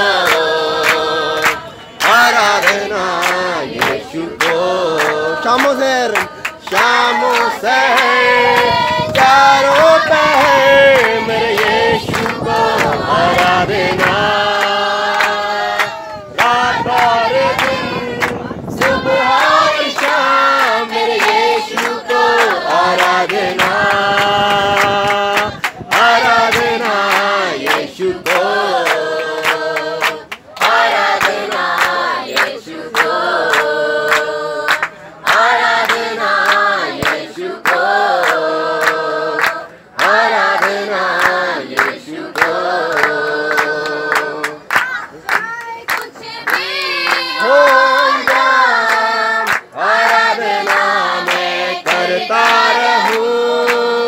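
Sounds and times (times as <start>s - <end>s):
group singing: 0.0s - 54.0s
hand clapping: 0.2s - 20.2s, 21.2s - 53.9s.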